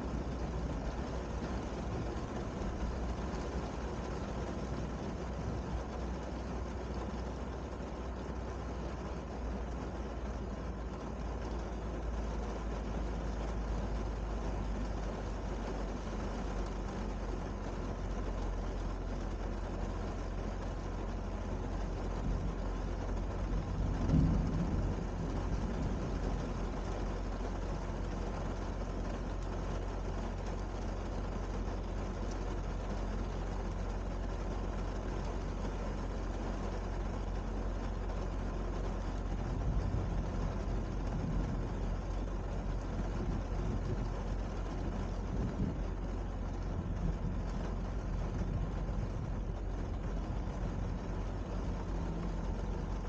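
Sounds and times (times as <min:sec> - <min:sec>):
low rumble: 0:00.0 - 0:53.0
steady rain: 0:00.0 - 0:53.0.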